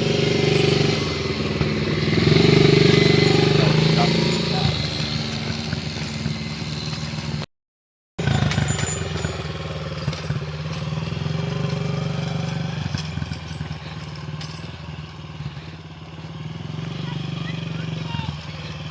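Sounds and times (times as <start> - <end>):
small dirt bike engine running: 0.0 - 7.5, 8.2 - 18.9.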